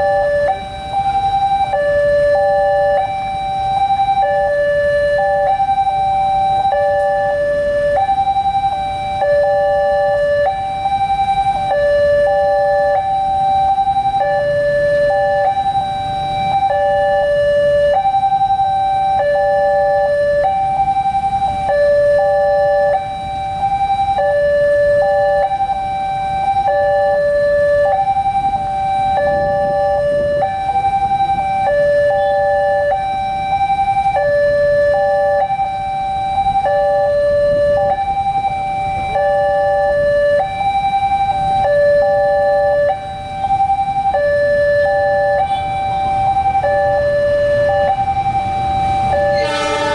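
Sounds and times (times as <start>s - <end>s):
level crossing alarm two-tone: 0.0s - 49.9s
low rumble of traffic: 0.0s - 49.9s.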